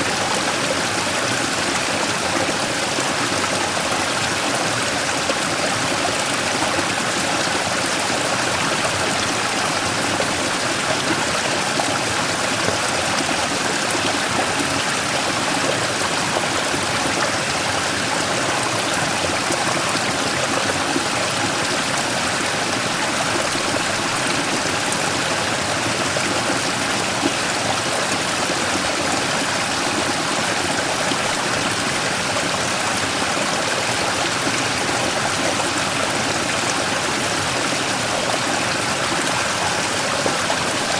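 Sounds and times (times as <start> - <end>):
stream rushing over rock: 0.0 - 40.9.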